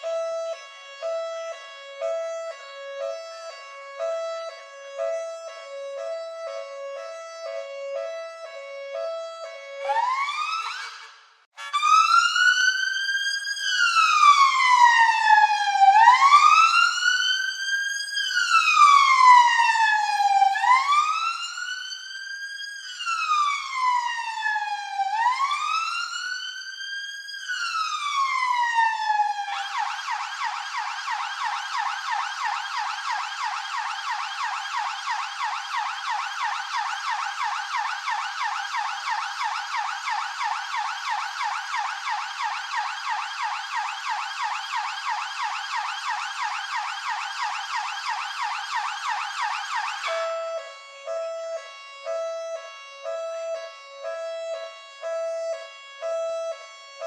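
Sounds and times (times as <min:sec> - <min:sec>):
police siren wailing and yelping: 0:05.0 - 0:54.5.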